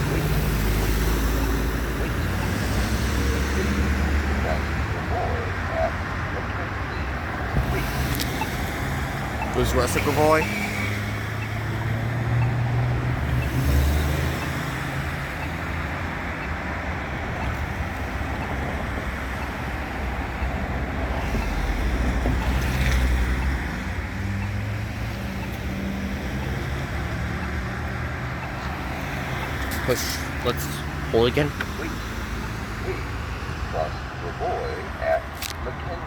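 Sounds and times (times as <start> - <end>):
cars passing: 0.0 - 36.0
vehicle engines humming: 0.0 - 36.0.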